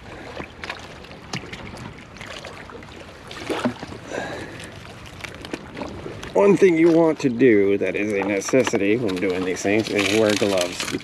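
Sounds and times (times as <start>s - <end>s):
mud and water squelching: 0.0s - 11.0s.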